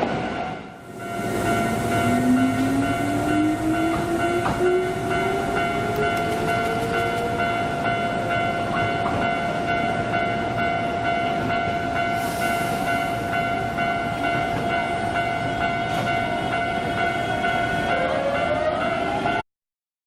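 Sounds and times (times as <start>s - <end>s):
electric train whine and rumble: 0.0s - 19.4s.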